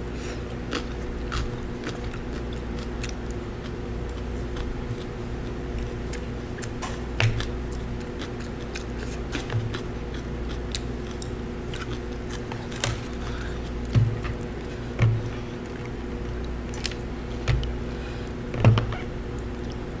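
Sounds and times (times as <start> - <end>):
background hum: 0.0 - 20.0
person chewing: 0.2 - 18.4.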